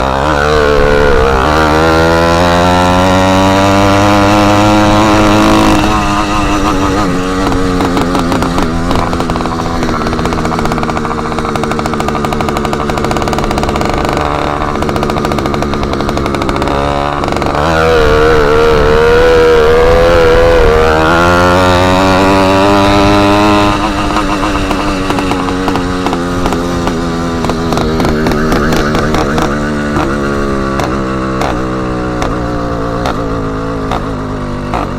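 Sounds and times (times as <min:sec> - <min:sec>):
small engine revving: 0:00.0 - 0:34.9.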